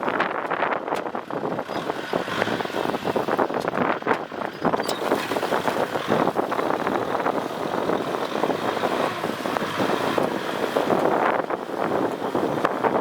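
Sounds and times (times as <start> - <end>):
tractor running: 0.0 - 13.0
wind buffeting microphone: 0.0 - 13.0.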